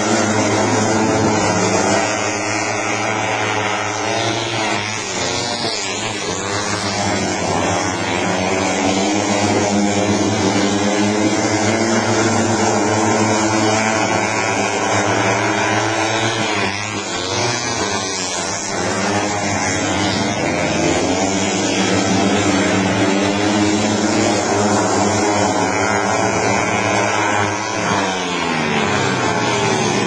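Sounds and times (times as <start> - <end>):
motorcycle engines racing: 0.0 - 30.0.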